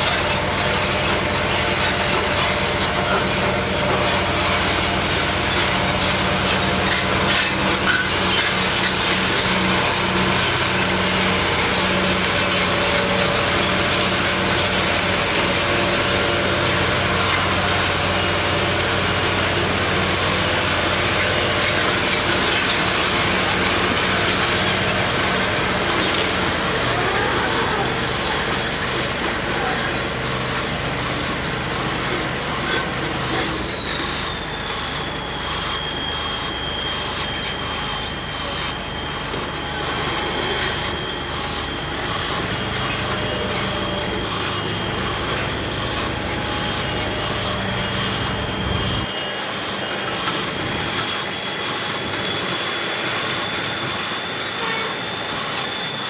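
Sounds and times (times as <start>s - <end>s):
pile driver high whine: 0.0s - 56.0s.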